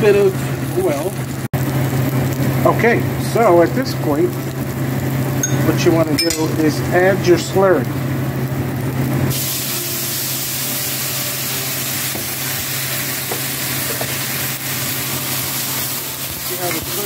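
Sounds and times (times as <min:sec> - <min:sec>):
sauce sizzling in a hot wok: 0:00.0 - 0:17.0.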